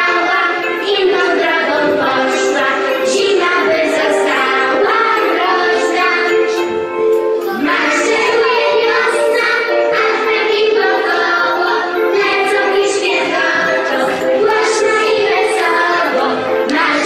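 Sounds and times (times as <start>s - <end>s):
accompanying music: 0.0s - 17.0s
children singing: 0.0s - 17.0s.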